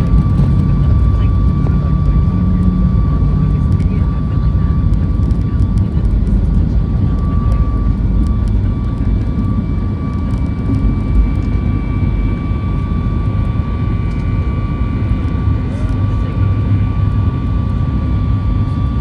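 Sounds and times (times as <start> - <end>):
jet engine and airflow rumble: 0.0 - 19.0.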